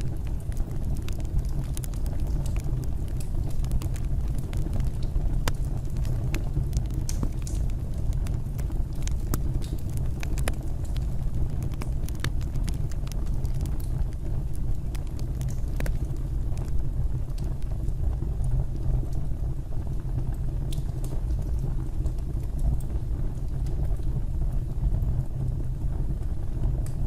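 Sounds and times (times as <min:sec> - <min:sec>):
fire crackling and popping: 0:00.0 - 0:27.0
fire roaring: 0:00.0 - 0:27.0.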